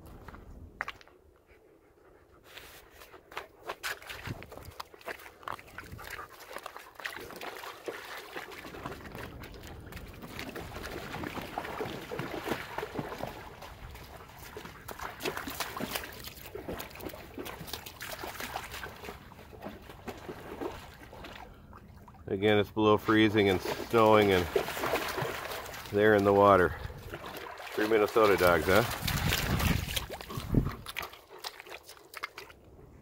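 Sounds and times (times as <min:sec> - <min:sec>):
dogs splashing in water: 0:03.3 - 0:22.3, 0:22.9 - 0:32.6.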